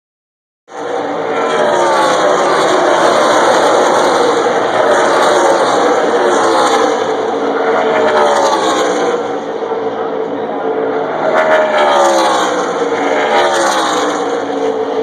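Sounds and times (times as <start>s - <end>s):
race truck engines passing: 0.7s - 15.0s.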